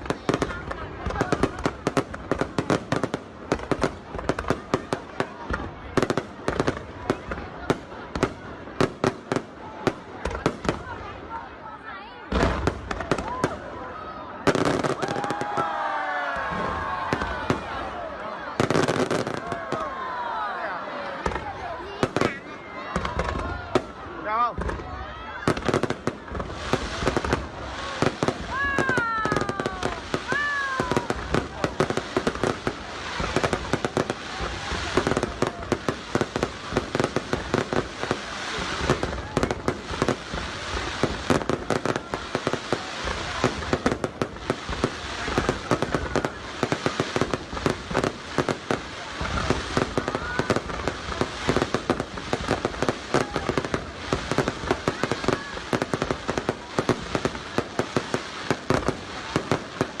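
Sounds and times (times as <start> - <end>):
fireworks crackling hiss: 0.0 - 11.4, 21.2 - 60.0
fireworks bangs and cracks: 0.0 - 60.0.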